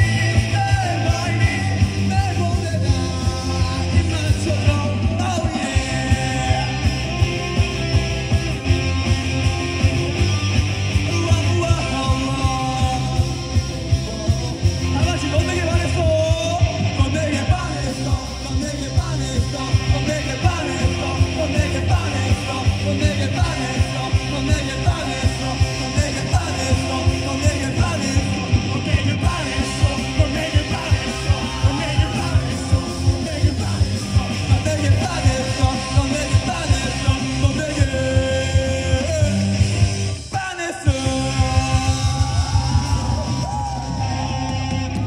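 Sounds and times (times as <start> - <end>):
fast drum beat: 0.0 - 40.1, 40.9 - 43.5
bass guitar: 0.0 - 45.0
distorted electric guitars: 0.0 - 45.0.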